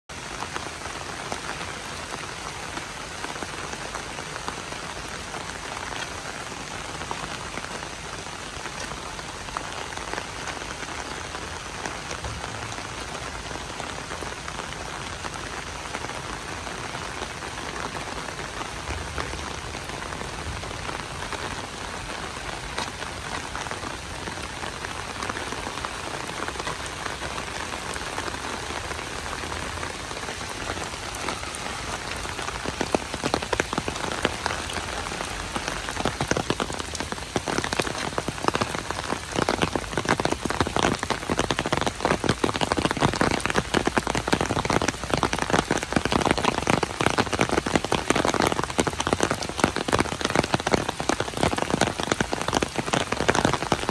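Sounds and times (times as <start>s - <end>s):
rain falling on pavement: 0.0s - 53.9s
raindrop ticks: 1.3s - 7.8s, 8.5s - 10.8s, 17.8s - 53.9s.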